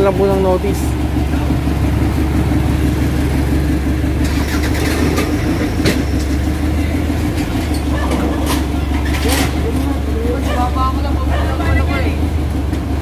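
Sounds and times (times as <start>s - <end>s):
street traffic: 0.0s - 13.0s
vehicle engine idling: 0.0s - 13.0s.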